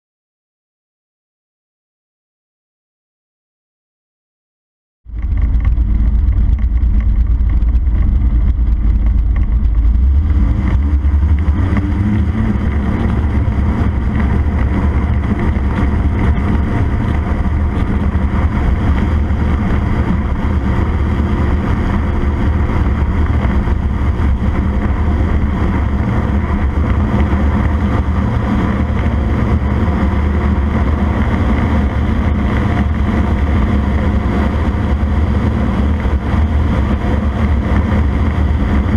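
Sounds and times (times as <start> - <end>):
microlight engine and propeller: 5.1 - 38.9.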